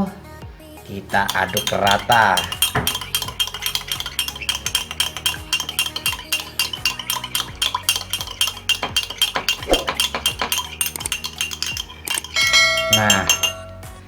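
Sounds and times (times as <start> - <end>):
spoon clinking against container: 1.1 - 14.0.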